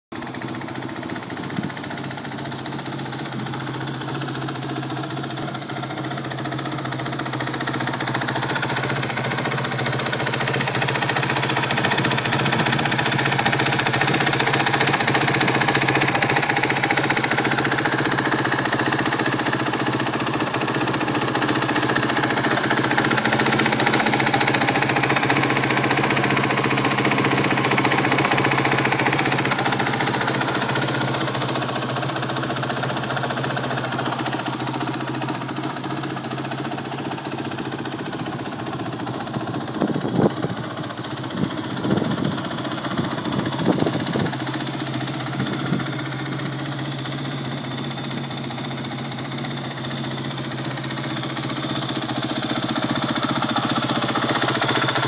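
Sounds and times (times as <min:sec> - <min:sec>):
motorcycle engine idling: 0:00.1 - 0:55.0.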